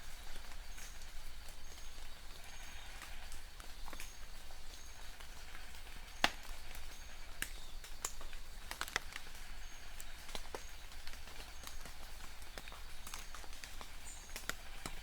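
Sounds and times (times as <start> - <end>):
steady rain hiss: 0.0 - 15.0
raindrops tapping close by: 3.0 - 15.0.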